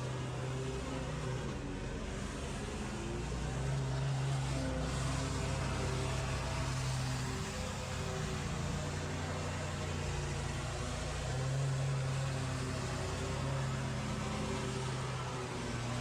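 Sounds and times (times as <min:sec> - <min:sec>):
lawn power equipment running: 0:00.0 - 0:16.0.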